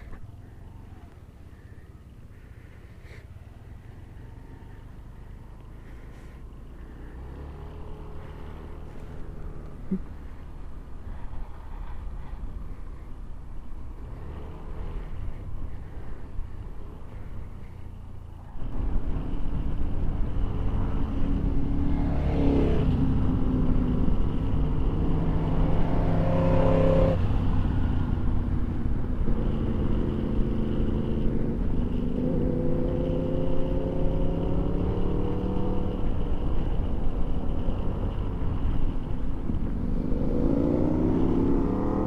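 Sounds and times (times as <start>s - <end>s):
motorcycle engine accelerating: 3.1s - 13.1s, 13.8s - 42.0s.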